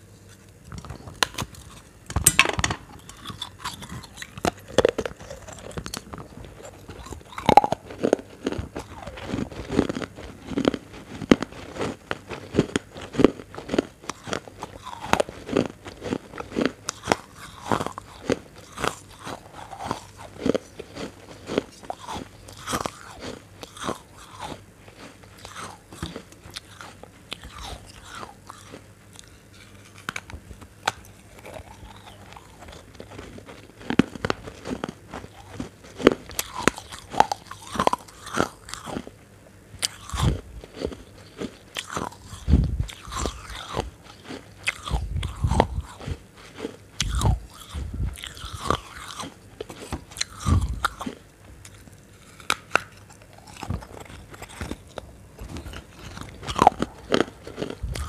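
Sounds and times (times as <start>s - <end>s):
crunchy food bites and chewing: 0.4s - 39.2s, 39.8s - 58.0s.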